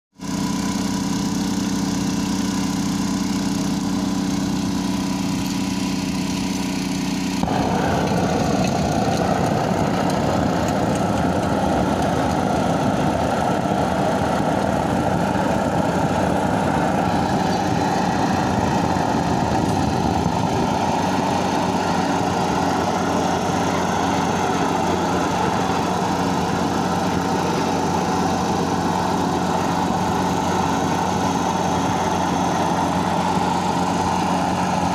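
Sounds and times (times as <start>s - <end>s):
engine running: 0.1s - 34.9s
loud rough noise: 0.2s - 34.9s.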